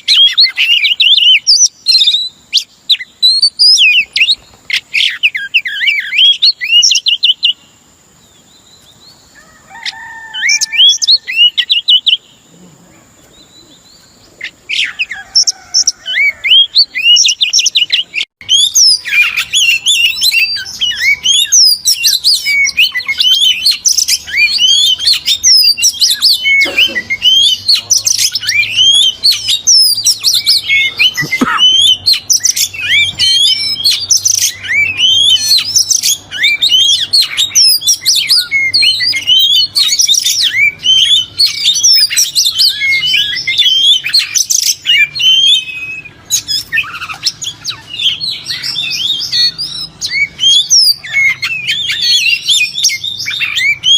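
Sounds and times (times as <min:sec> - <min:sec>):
bird singing chirps and whistles: 0:00.0 - 0:12.5, 0:13.2 - 0:53.9.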